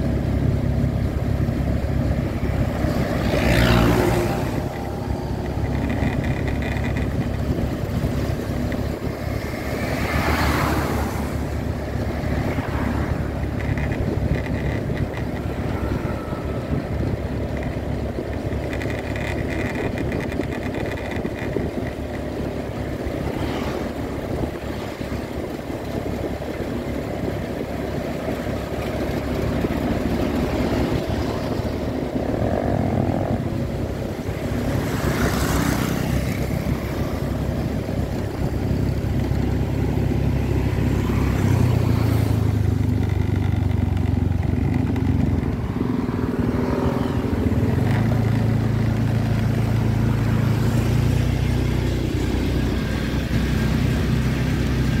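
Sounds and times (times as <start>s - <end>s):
passing traffic rush: 0.0s - 55.0s
small motorcycle engine running: 0.0s - 55.0s.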